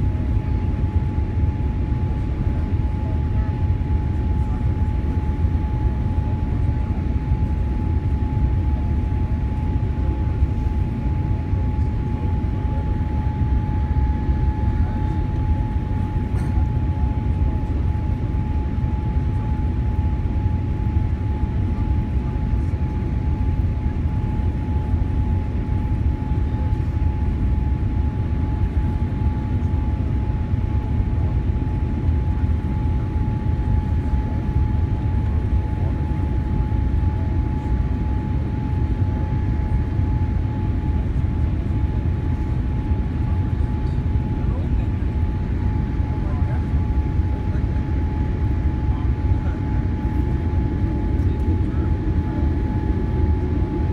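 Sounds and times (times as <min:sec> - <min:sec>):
airplane cabin rumble: 0:00.0 - 0:53.9.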